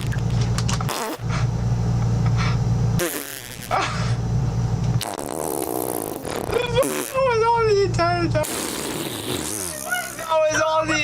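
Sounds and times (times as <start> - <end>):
low buzzing fart: 0.0 - 1.6, 2.2 - 7.6, 8.3 - 10.5.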